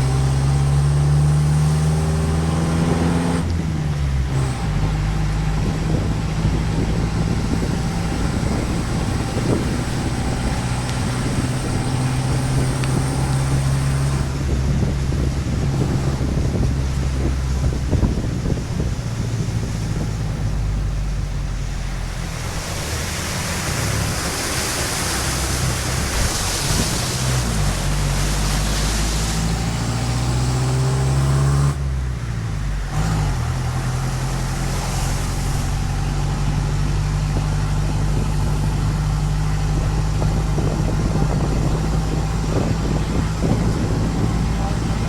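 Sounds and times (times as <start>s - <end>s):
car engine humming: 0.0s - 45.0s.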